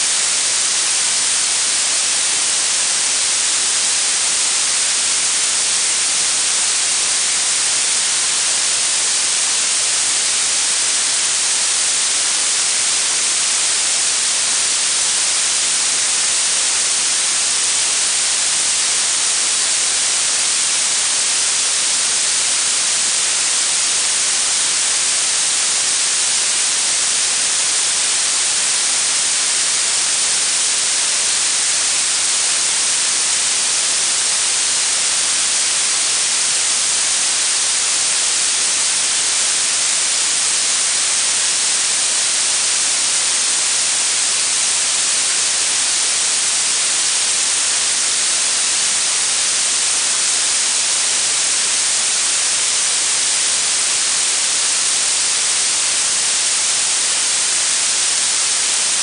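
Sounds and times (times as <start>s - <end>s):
steady high-pitched hiss: 0.0s - 59.0s.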